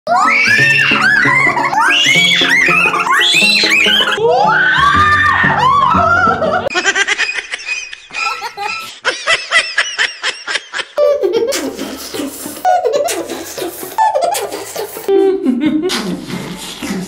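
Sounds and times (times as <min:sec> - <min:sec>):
high rapid giggles: 0:00.2 - 0:04.2, 0:06.6 - 0:09.4, 0:10.0 - 0:17.0
deep laughs gliding down: 0:00.2 - 0:04.4, 0:05.6 - 0:17.0.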